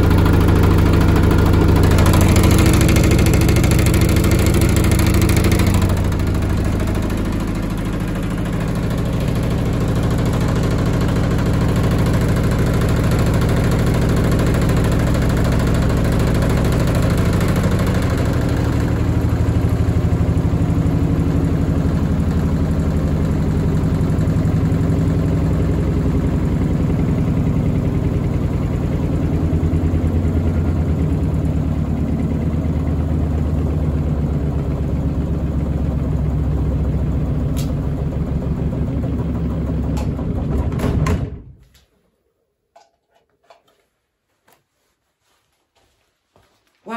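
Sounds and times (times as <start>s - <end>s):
washing machine rumbling: 0.0s - 41.6s.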